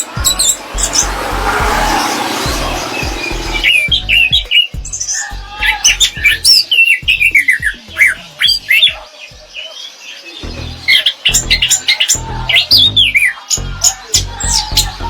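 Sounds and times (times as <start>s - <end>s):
thrush singing whistled notes: 0.0s - 15.0s.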